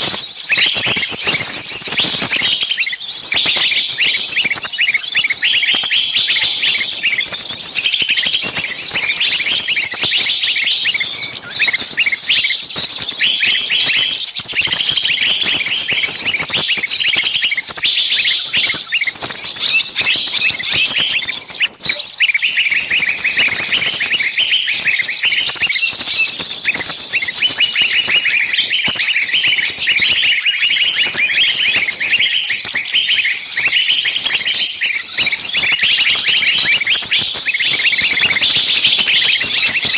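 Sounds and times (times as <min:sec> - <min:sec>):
songbirds calling shrilly: 0:00.0 - 0:39.9.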